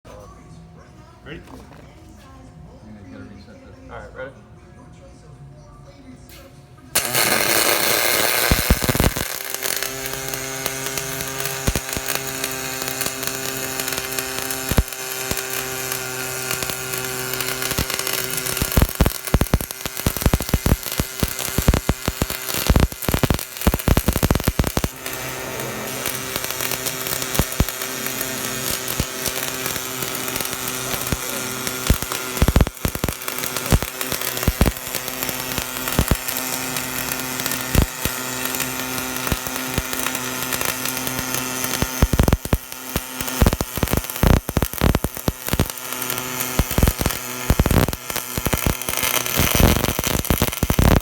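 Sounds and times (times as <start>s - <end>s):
welding machine electrical hum: 6.3s - 51.0s
welding arc crackling: 6.9s - 51.0s.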